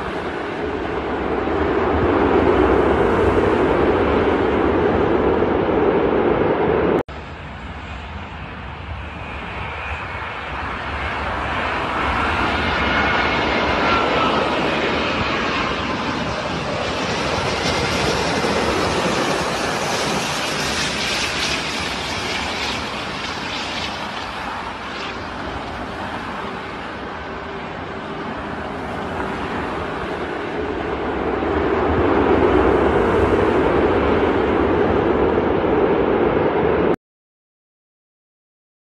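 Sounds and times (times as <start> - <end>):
jet engines rushing: 0.0 - 37.0.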